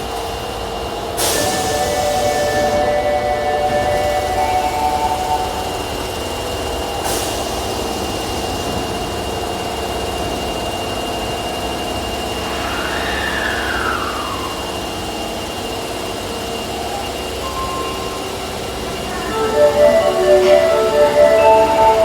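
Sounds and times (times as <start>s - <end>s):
subway train mechanical hum: 0.0s - 22.0s.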